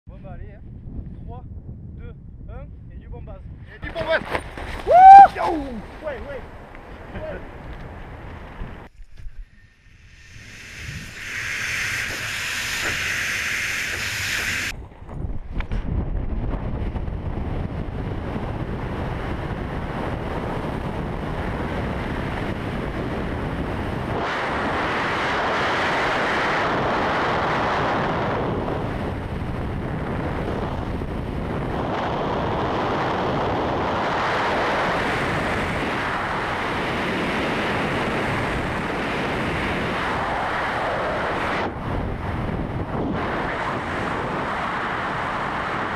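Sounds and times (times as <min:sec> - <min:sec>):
wind rushing over microphone: 0:00.1 - 0:45.9.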